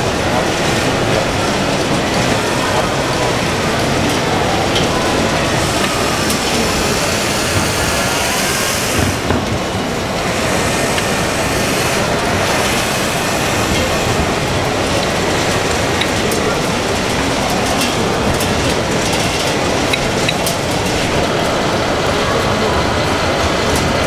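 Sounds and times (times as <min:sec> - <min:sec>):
crowd hubbub: 0:00.0 - 0:24.0
model trucks rumbling: 0:00.0 - 0:24.0.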